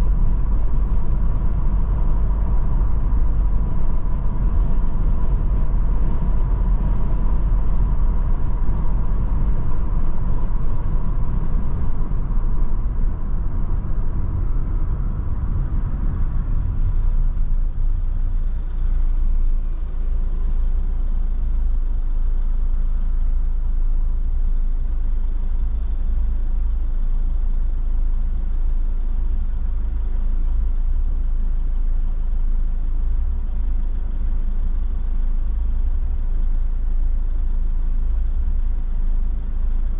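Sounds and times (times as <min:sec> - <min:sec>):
car tyres and engine: 0:00.0 - 0:39.9.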